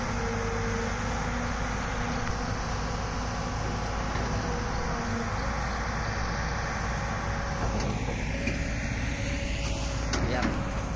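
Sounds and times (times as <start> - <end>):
diesel engine idling: 0.0 - 10.9.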